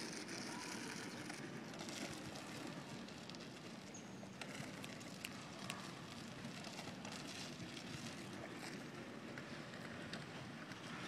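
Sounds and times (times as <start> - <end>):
cart rolling noise: 0.0 - 11.0.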